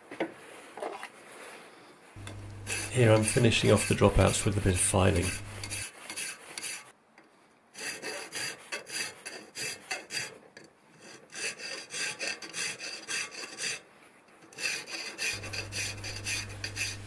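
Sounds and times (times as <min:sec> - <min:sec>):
hand file rasping on steel: 0:02.3 - 0:06.9, 0:07.7 - 0:17.0.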